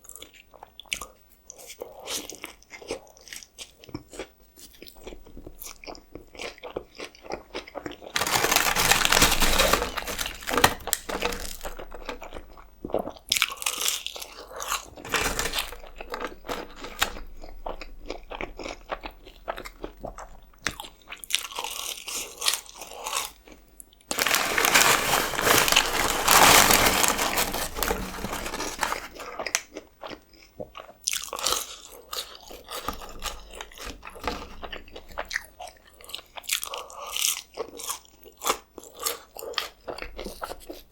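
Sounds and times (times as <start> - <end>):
person chewing food crunchily: 0.1 - 23.6, 24.4 - 40.8.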